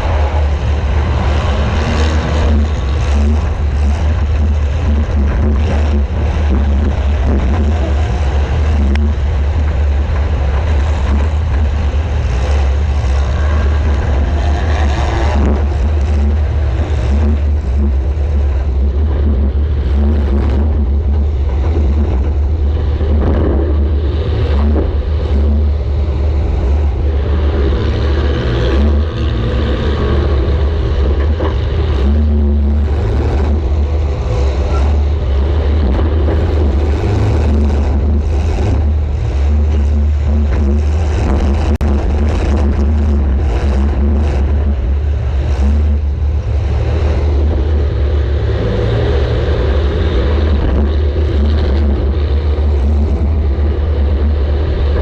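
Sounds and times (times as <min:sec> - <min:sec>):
car engine running hard: 0:00.0 - 0:55.0
knocks and rattles: 0:00.0 - 0:55.0.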